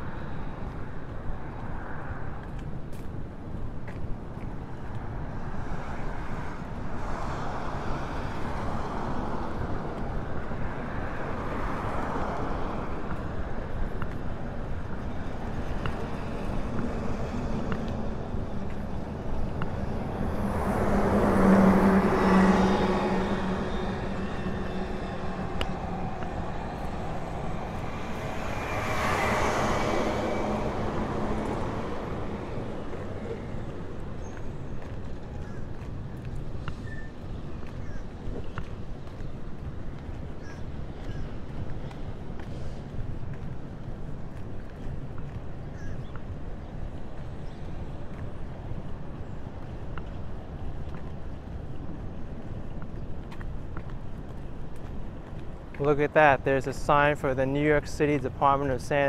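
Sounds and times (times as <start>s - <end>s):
steady traffic rumble: 0.0s - 59.0s
motor vehicles passing: 3.9s - 59.0s.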